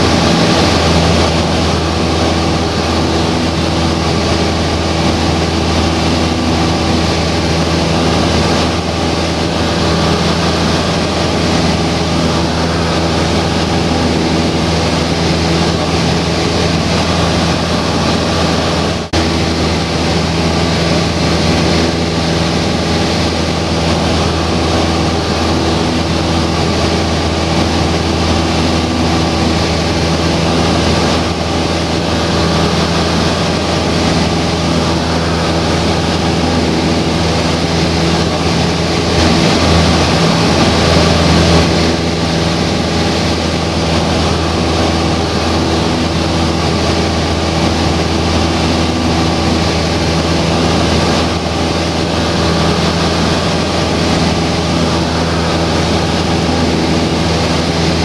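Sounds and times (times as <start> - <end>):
airplane engine and propeller: 0.0 - 58.0.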